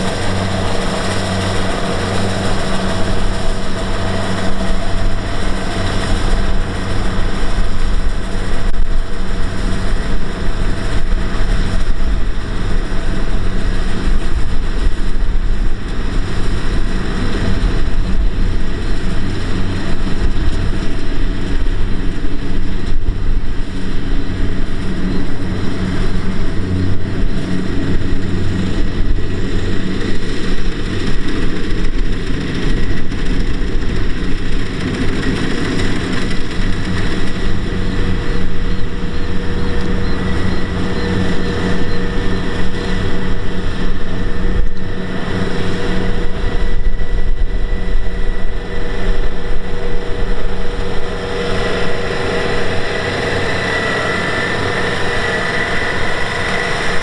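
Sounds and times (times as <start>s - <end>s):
diesel engine drone: 0.0s - 57.0s
harvesting machinery noise: 0.0s - 57.0s.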